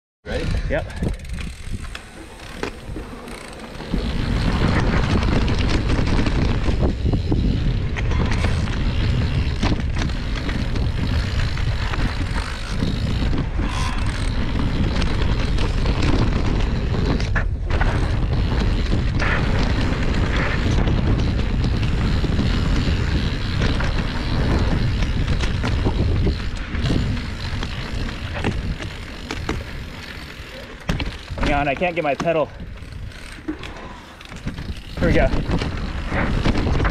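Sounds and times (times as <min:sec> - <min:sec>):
bike clattering over bumps: 0:00.3 - 0:36.9
bike tyres rumbling over dirt: 0:00.3 - 0:36.9
wind buffeting microphone: 0:00.3 - 0:36.9.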